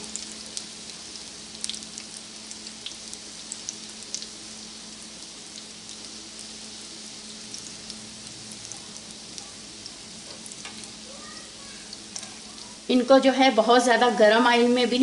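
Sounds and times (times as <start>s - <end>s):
kababs sizzling in oil: 0.0s - 15.0s.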